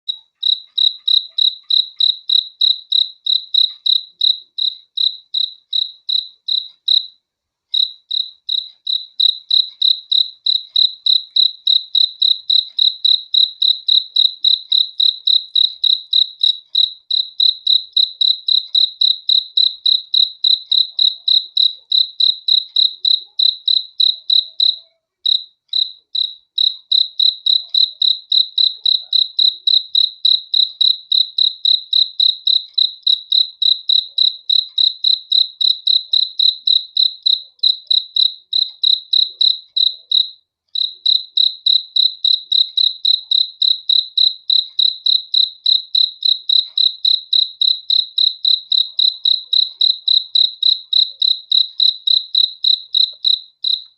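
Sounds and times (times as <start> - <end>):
cricket chirping: 0.1 - 53.9.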